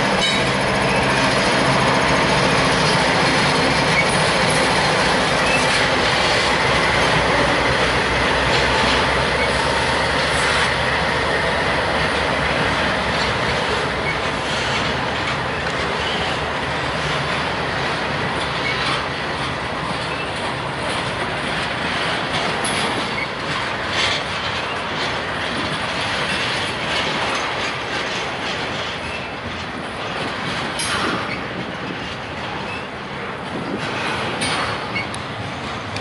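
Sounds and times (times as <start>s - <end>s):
train wheels rumbling on rail: 0.0s - 36.0s
wheels clacking over rail joints: 0.0s - 36.0s.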